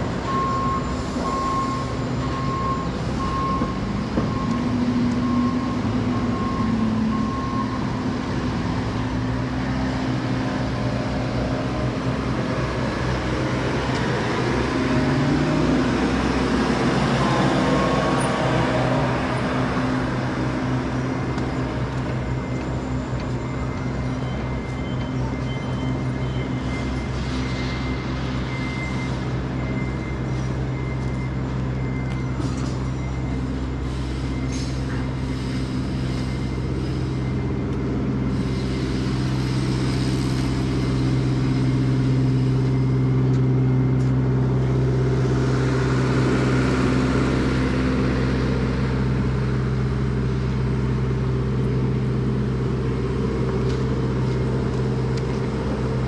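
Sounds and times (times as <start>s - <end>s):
vehicle engine hum: 0.0s - 56.0s.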